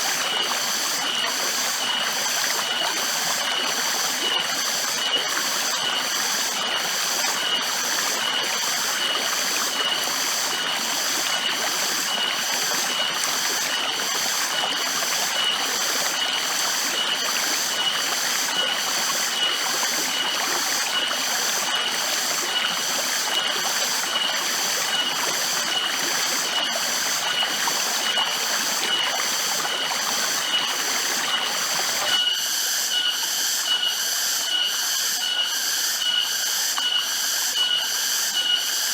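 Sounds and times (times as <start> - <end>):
high-pitched insect chirp: 0.0 - 38.9
running water hiss: 0.0 - 38.9.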